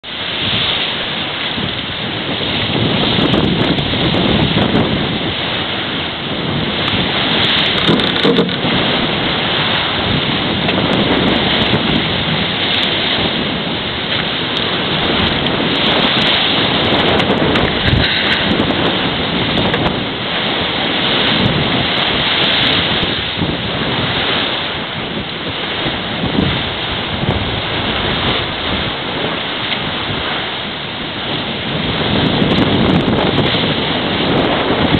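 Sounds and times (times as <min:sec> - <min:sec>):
water rushing along hull: 0:00.0 - 0:34.9
wind buffeting microphone: 0:00.0 - 0:34.9.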